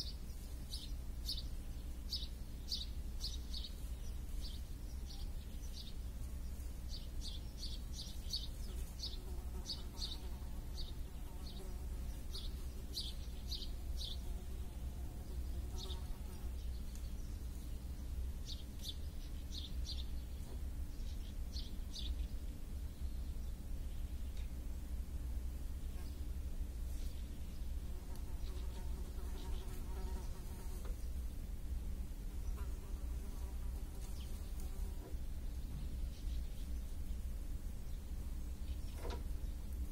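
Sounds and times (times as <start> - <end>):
small birds chirping: 0.0 - 24.7, 25.6 - 39.9
faint buzz: 0.0 - 39.9
low outdoor hum: 0.0 - 39.9.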